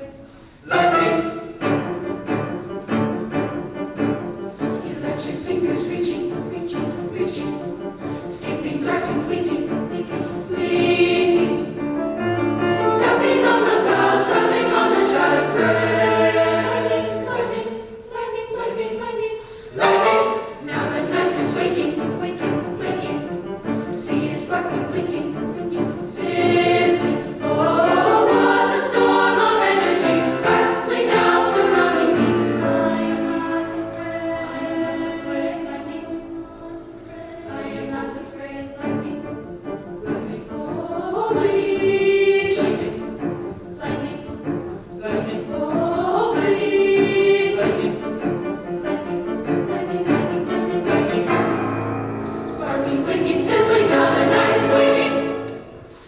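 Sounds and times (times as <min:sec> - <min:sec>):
piano accompaniment: 0:00.0 - 0:19.2, 0:19.8 - 0:56.0
choir singing in parts: 0:00.0 - 0:56.0.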